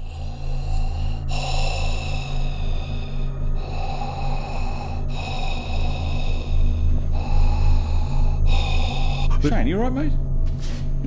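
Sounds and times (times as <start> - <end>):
heavy rhythmic breathing: 0.0 - 11.0
steady low drone: 0.0 - 11.0.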